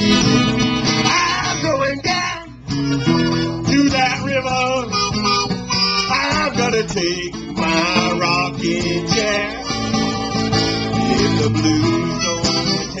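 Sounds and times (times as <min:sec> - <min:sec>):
acoustic guitar accompaniment: 0:00.0 - 0:13.0
blues harmonica with bending notes: 0:00.0 - 0:13.0.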